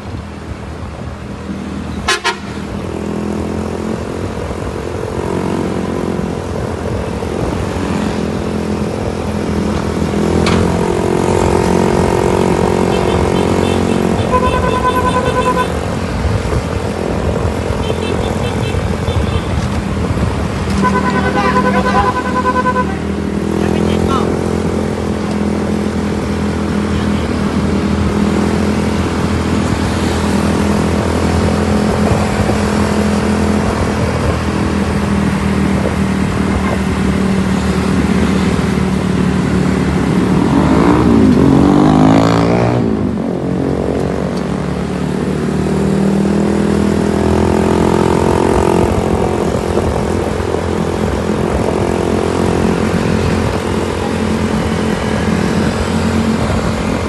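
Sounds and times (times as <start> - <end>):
traffic engines running: 0.0 - 57.0.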